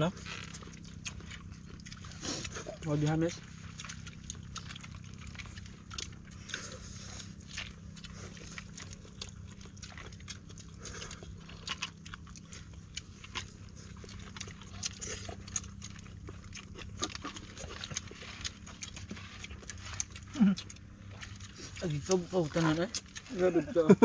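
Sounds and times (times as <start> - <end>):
low background rumble: 0.0 - 24.0
people chewing and lip-smacking: 0.0 - 24.0.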